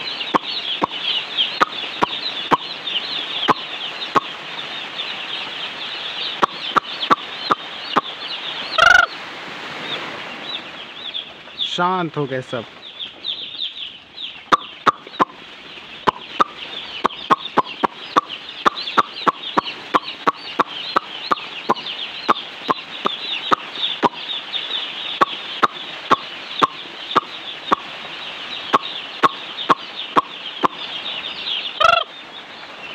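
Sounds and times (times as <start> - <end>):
chicks peeping: 0.0 - 9.2, 9.8 - 32.9.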